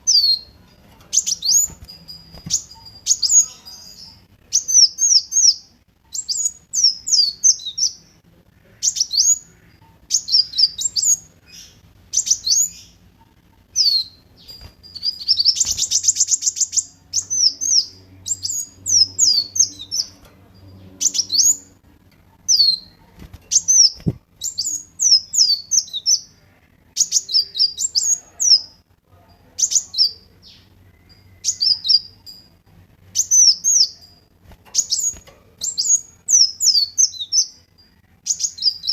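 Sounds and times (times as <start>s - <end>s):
bird chirping: 0.0s - 28.8s, 29.4s - 38.9s.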